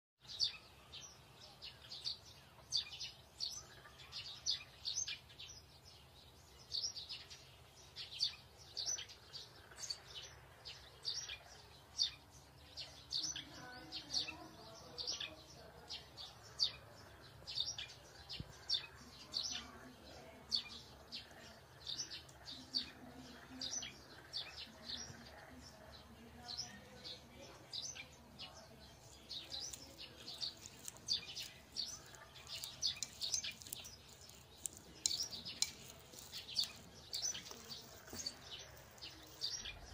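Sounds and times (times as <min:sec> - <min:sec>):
small birds chirping: 0:00.2 - 0:39.9.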